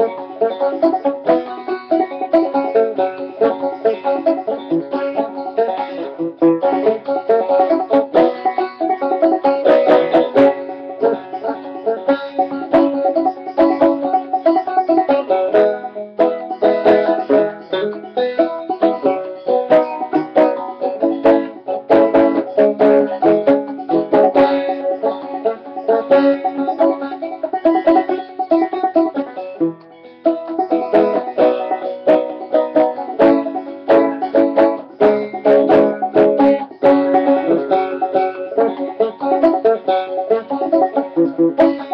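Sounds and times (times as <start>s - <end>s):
banjo plucked notes: 0.0s - 41.9s.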